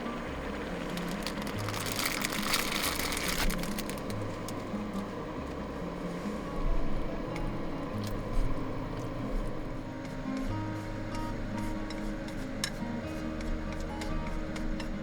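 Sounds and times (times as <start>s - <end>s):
soft music with bass line: 0.0s - 15.0s.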